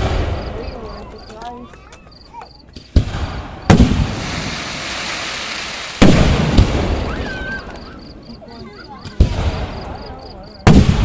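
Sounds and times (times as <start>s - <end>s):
fireworks booming: 0.0s - 1.3s, 2.6s - 11.0s
crackling hiss: 1.8s - 11.0s.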